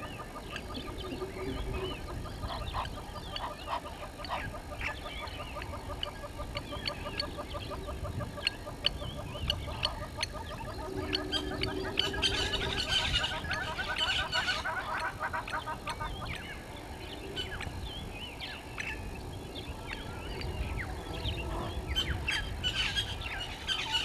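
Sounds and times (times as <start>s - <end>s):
guineafowl harsh calls: 0.0s - 17.8s, 19.7s - 24.0s
birds chirping and whistling: 0.0s - 24.0s.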